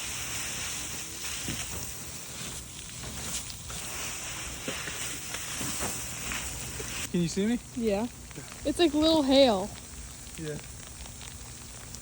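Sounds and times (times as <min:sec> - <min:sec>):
sleet falling with high hiss: 0:00.0 - 0:09.7.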